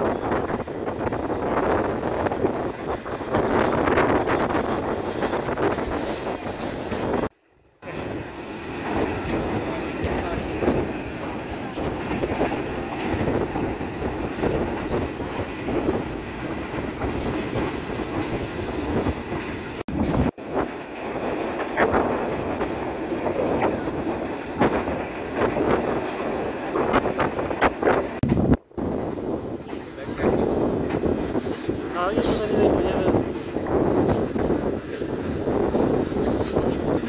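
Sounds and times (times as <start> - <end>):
train wheels rumbling on track: 0.0 - 37.0.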